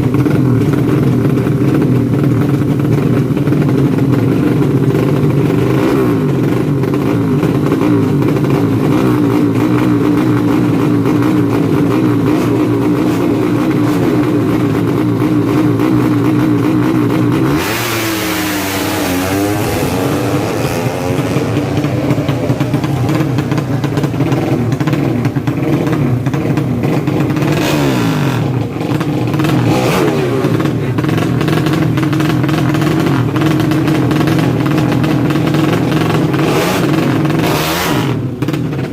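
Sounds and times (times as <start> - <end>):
motorcycle engine revving high: 0.0 - 38.9.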